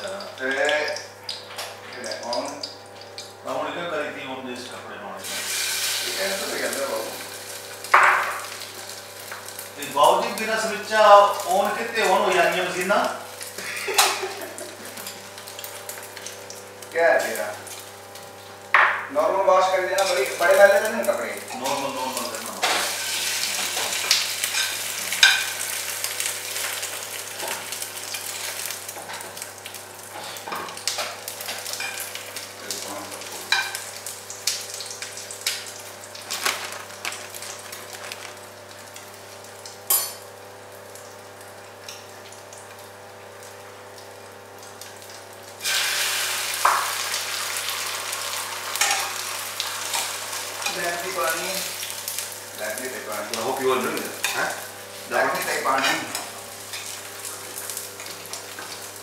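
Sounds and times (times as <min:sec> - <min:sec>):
omelette sizzling in a pan: 0:05.2 - 0:59.0.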